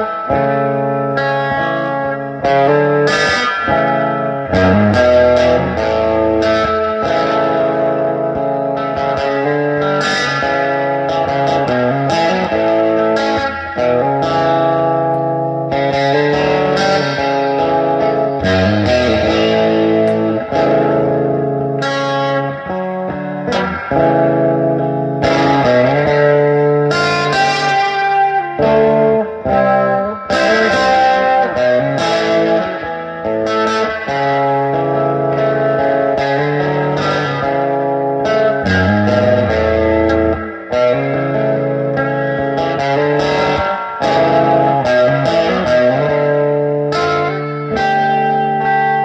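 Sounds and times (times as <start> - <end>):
electric guitar playing: 0.0 - 49.0.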